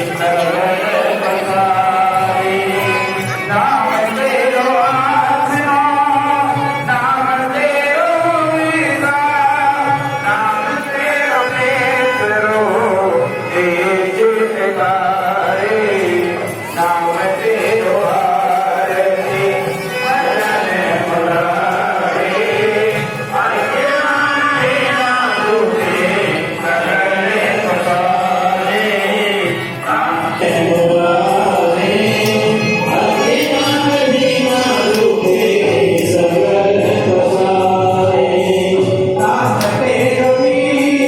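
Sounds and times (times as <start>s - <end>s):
person singing a hymn: 0.0s - 41.0s.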